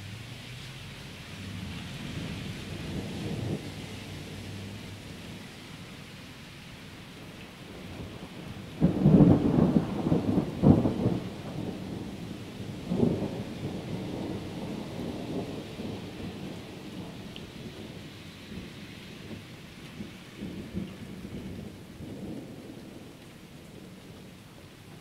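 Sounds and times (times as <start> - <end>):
steady rain: 0.0 - 25.0
thunder crack and rumble: 1.4 - 6.0, 7.2 - 25.0.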